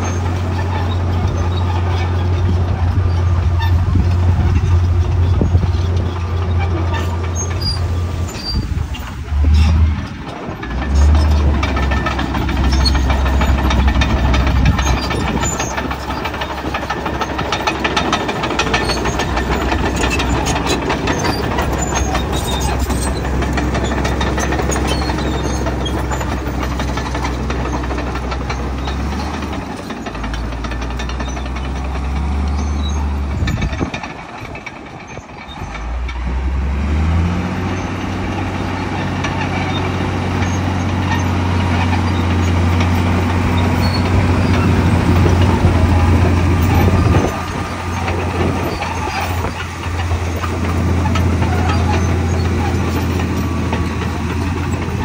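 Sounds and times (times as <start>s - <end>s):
bulldozer diesel engine under load: 0.0s - 55.0s
steel tracks clanking: 0.0s - 55.0s.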